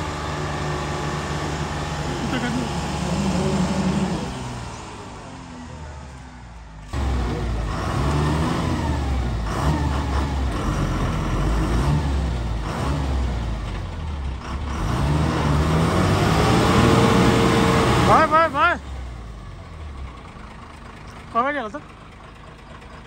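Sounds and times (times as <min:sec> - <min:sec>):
bus diesel engine revving: 0:00.0 - 0:23.0.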